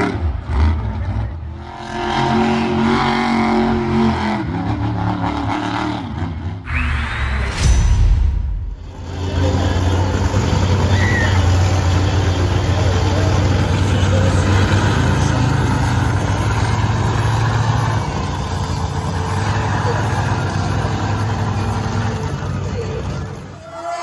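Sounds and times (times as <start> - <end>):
truck engine droning at low revs: 0.0 - 23.8.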